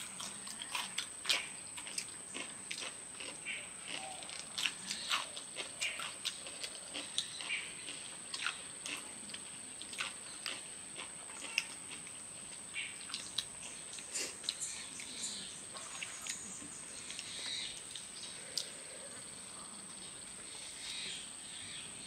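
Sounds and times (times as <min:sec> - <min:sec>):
chewing and lip-smacking: 0:00.0 - 0:18.8.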